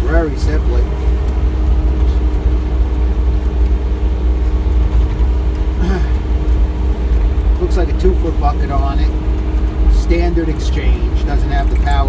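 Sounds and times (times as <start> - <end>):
mini excavator diesel engine running: 0.0 - 12.0.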